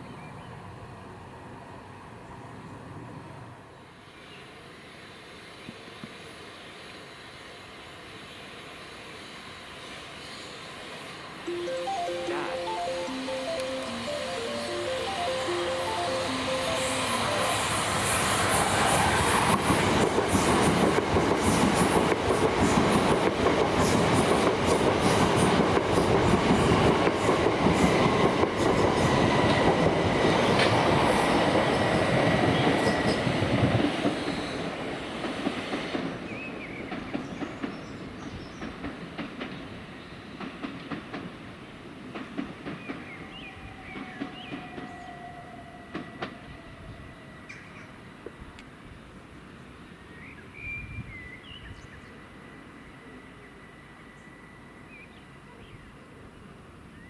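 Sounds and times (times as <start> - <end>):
passenger train passing: 0.3 - 5.6, 6.7 - 50.2.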